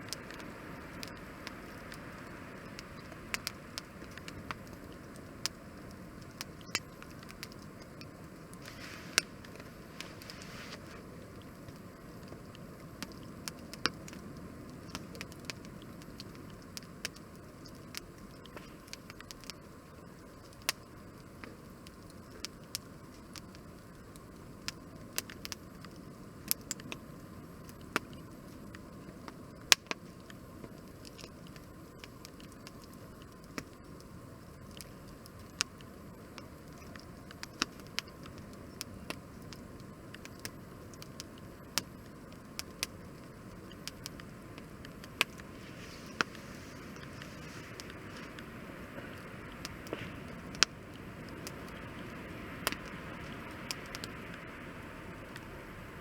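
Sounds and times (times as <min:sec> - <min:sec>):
low steady fire rush: 0:00.0 - 0:56.0
wood fire crackling and popping: 0:00.0 - 0:56.0.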